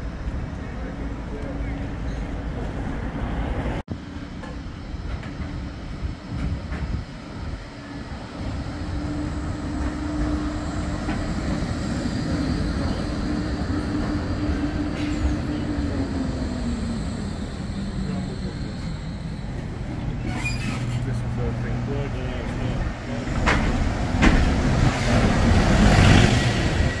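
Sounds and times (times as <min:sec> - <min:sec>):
electric tram passing: 0:00.0 - 0:27.0.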